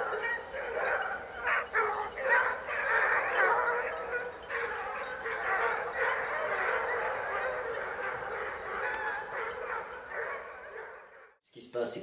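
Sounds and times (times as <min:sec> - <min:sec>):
hounds baying: 0:00.0 - 0:11.4.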